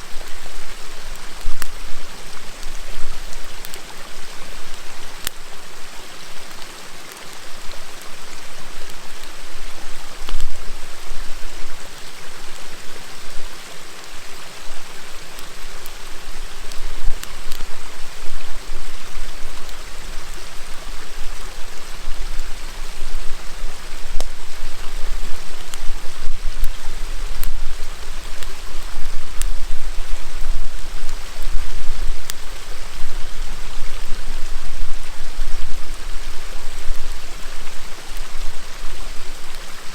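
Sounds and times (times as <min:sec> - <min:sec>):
campfire crackling: 0:00.0 - 0:39.9
river water flowing: 0:00.0 - 0:39.9.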